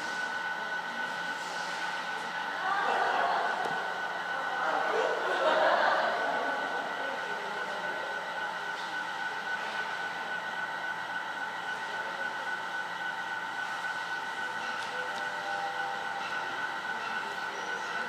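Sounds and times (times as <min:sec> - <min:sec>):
machine hum with whining tones: 0:00.0 - 0:18.0.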